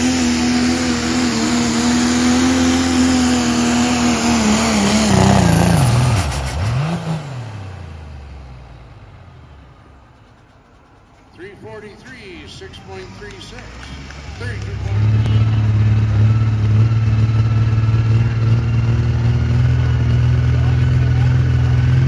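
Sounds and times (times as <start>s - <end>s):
diesel engine revving under load: 0.0s - 22.0s.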